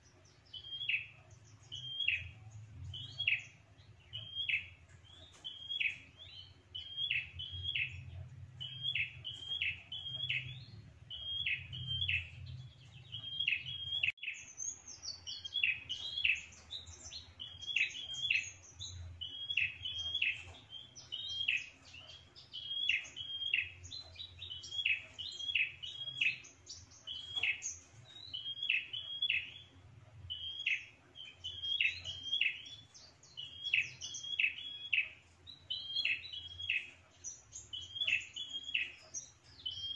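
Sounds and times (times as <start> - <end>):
higher bird chirps: 0.0 - 39.9.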